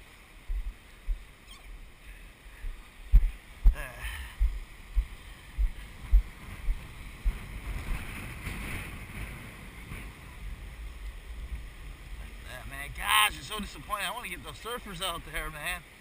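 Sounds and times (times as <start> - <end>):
big surf rushing: 0.0 - 16.0
wind gusting on microphone: 0.0 - 16.0.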